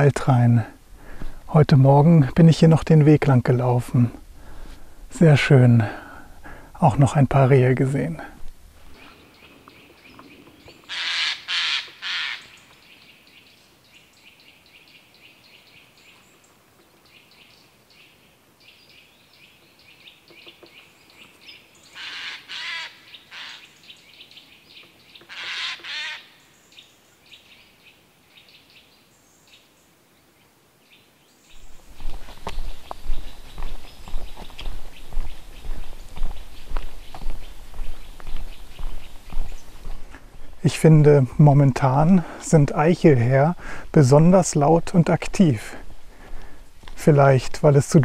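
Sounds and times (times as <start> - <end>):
small birds chirping: 0.0 - 11.3, 11.9 - 48.0.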